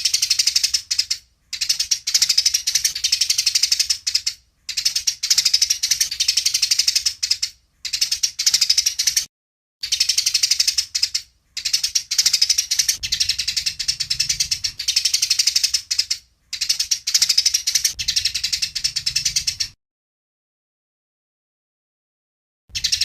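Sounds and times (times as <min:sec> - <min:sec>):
sparrows chirping: 0:00.0 - 0:19.8, 0:22.7 - 0:23.0.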